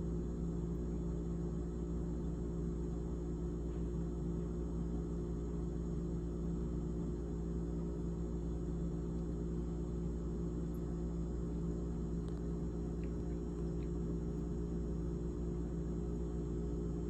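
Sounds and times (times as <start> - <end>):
refrigerator humming: 0.0 - 17.0.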